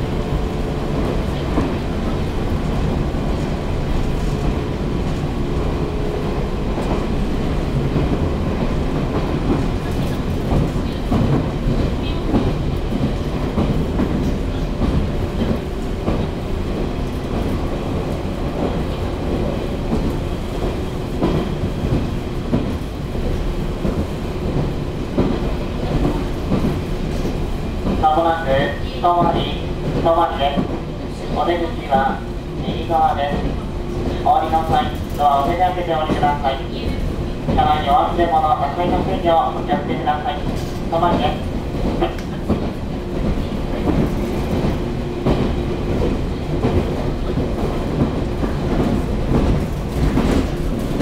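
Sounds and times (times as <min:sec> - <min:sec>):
train running gear rumble: 0:00.0 - 0:51.0.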